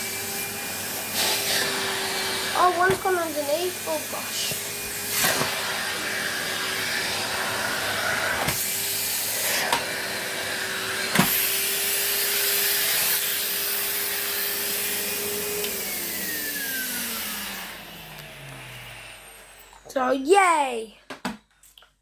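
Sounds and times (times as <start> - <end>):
vacuum motor winding down: 0.0 - 19.9
vacuum cleaner running: 0.0 - 20.5.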